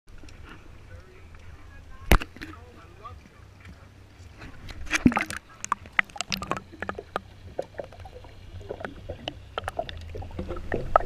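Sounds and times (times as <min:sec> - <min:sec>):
low steady rumble: 0:00.1 - 0:11.0
small splashes and clicks: 0:00.1 - 0:11.0
water lapping and gurgling: 0:00.1 - 0:11.0.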